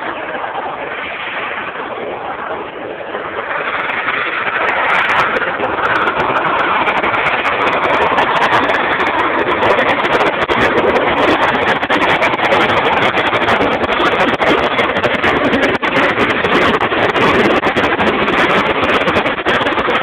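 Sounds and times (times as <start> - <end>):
loud crackling jet noise: 0.0 - 20.0.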